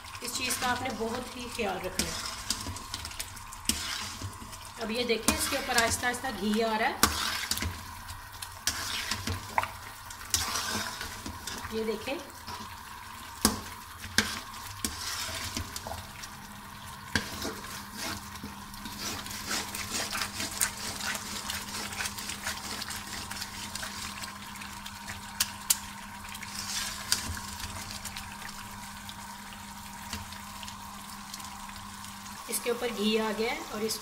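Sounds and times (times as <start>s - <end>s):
frying crackling and bubbling: 0.0s - 34.0s.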